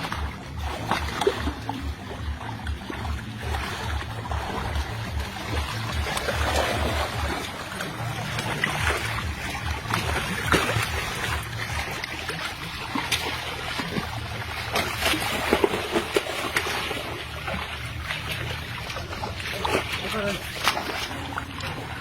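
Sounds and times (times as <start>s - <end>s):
water splashing and dripping: 0.0s - 22.0s.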